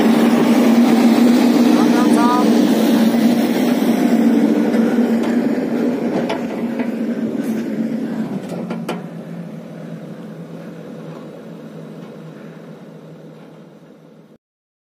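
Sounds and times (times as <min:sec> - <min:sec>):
diesel engine running: 0:00.0 - 0:14.4.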